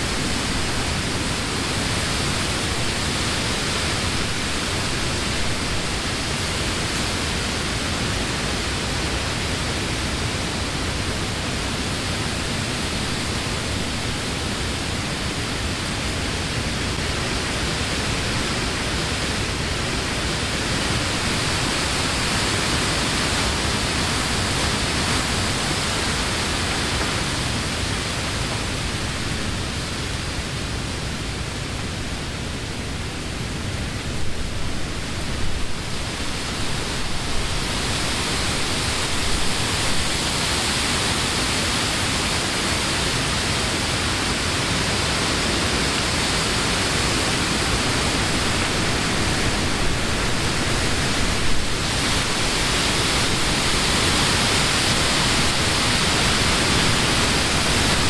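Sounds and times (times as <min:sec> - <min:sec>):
wind rustling leafy trees: 0:00.0 - 0:58.0.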